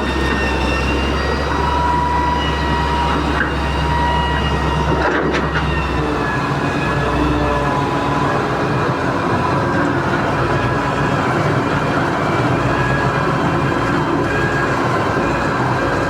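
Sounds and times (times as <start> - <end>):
excavator engine rumble: 0.0 - 16.0
high wavering whines: 0.0 - 16.0.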